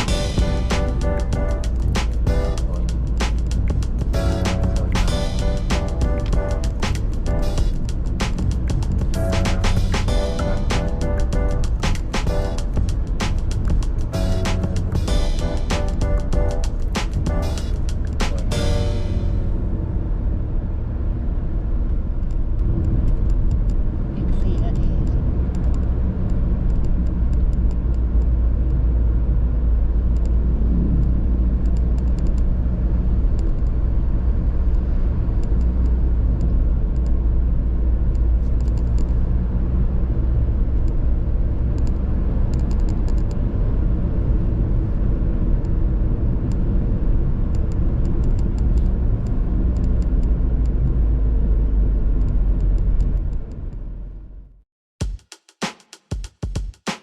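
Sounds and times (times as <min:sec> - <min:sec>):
vehicle driving on road: 0:00.0 - 0:54.6.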